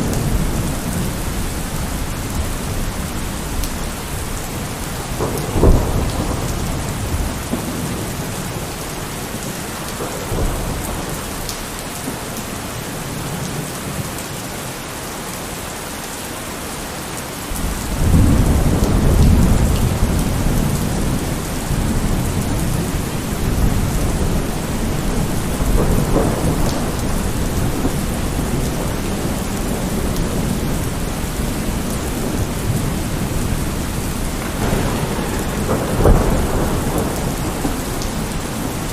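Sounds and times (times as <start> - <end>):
low rumble of thunder: 0.0 - 12.2, 17.5 - 38.9
steady rain falling: 0.0 - 38.9.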